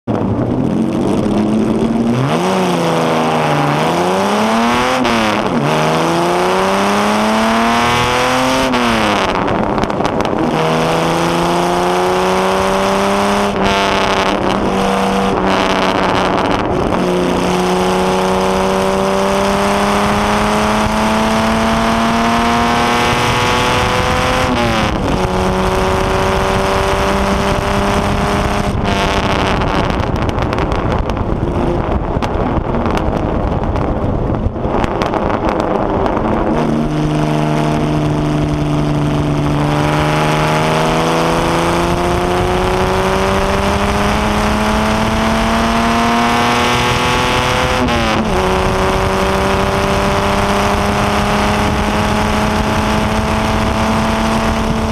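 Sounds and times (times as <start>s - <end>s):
racing car engine accelerating: 0.1s - 54.9s.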